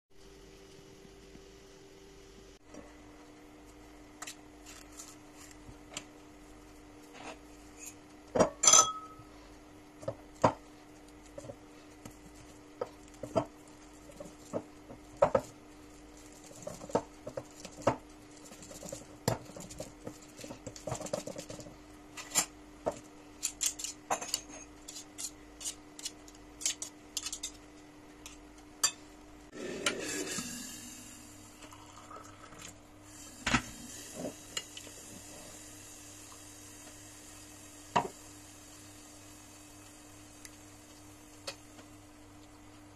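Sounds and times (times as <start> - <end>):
faint steady hum: 0.1 - 42.9.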